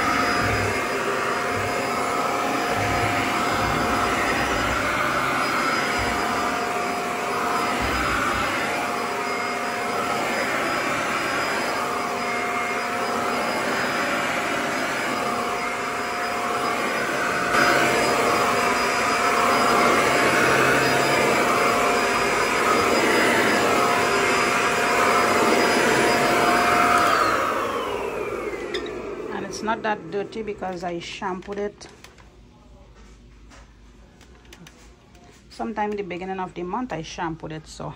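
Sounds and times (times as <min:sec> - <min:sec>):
vacuum switch off: 0:00.0 - 0:31.5
vacuum cleaner whine: 0:00.0 - 0:31.7.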